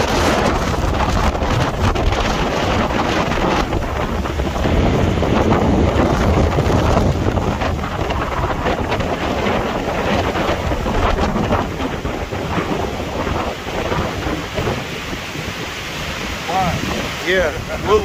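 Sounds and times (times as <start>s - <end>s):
steady rushing noise: 0.0s - 18.0s
wind buffeting microphone: 0.0s - 18.0s.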